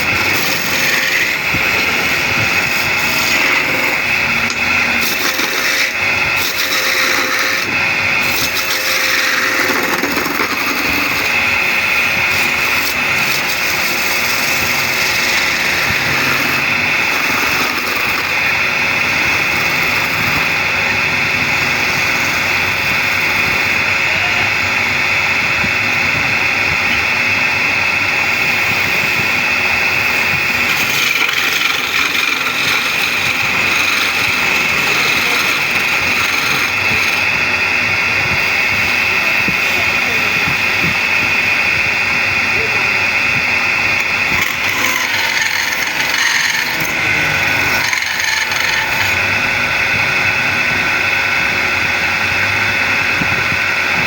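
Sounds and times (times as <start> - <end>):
wood lathe whirring: 0.0 - 54.0.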